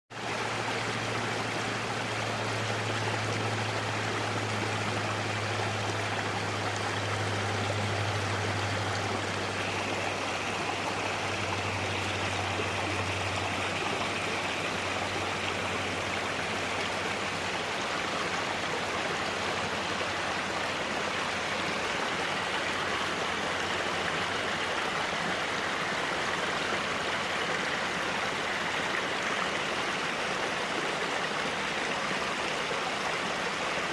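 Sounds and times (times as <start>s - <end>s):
stream water rushing: 0.1s - 33.9s.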